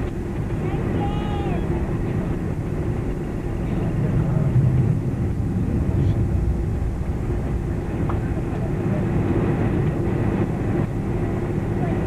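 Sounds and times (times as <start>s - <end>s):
aircraft engines low rumble: 0.0s - 12.0s
steady cabin hum: 0.0s - 12.0s.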